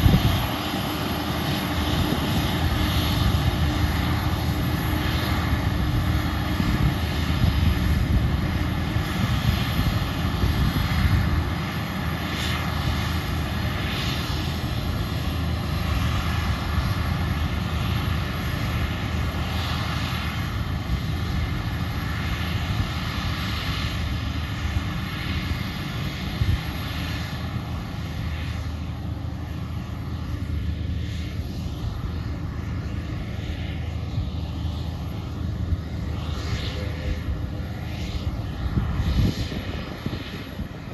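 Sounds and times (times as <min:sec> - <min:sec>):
harvester and tractor drone: 0:00.0 - 0:40.9
wind rumbling on microphone: 0:00.0 - 0:40.9.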